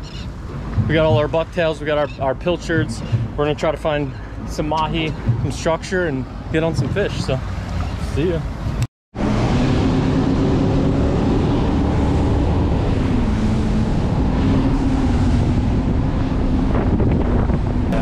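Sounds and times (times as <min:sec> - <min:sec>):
boat engine hum: 0:00.0 - 0:18.0
water rushing past hull: 0:00.0 - 0:18.0
wind buffeting microphone: 0:00.0 - 0:18.0.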